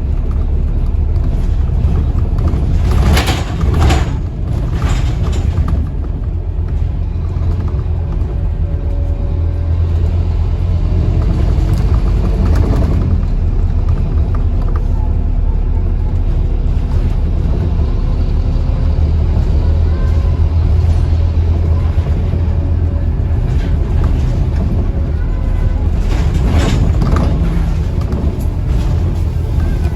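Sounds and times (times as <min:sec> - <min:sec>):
bus engine drone: 0:00.0 - 0:29.9.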